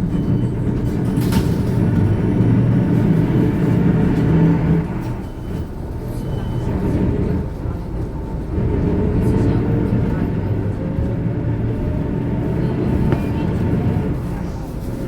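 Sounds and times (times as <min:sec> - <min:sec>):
electric bus motor hum: 0:00.0 - 0:15.0
road rumble: 0:00.0 - 0:15.0.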